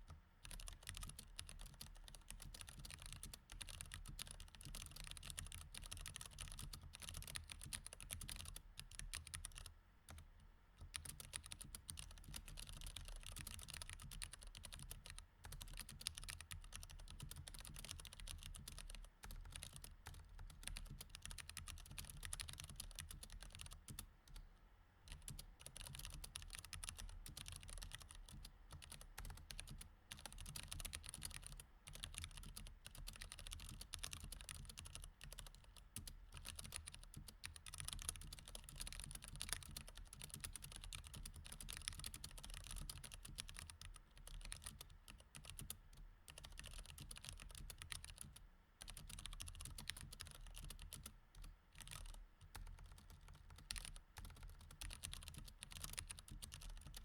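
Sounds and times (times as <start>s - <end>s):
mechanical keyboard typing: 0.5s - 10.2s, 10.8s - 24.4s, 25.1s - 57.0s.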